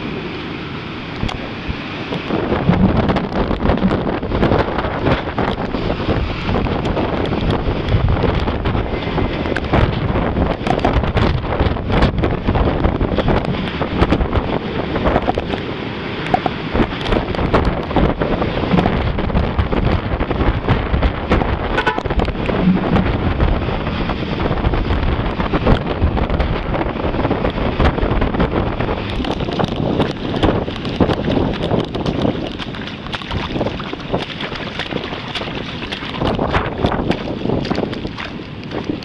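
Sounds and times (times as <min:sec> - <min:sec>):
strong wind buffeting microphone: 0:00.0 - 0:39.0
traffic on wet road: 0:00.0 - 0:39.0.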